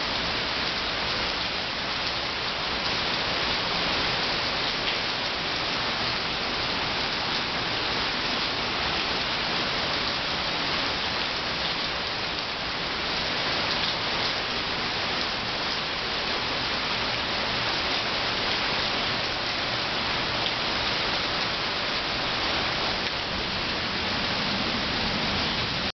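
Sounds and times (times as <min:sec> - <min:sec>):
rain falling on stone and foliage: 0:00.0 - 0:25.9.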